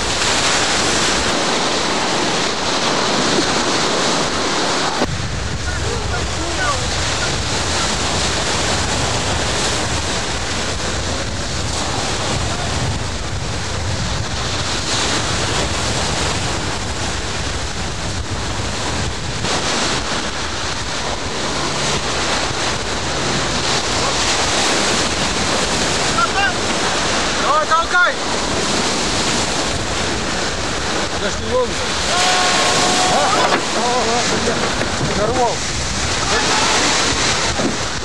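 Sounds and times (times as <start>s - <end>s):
sea surf breaking on shore: 0.0s - 38.0s
wind buffeting microphone: 0.0s - 38.0s.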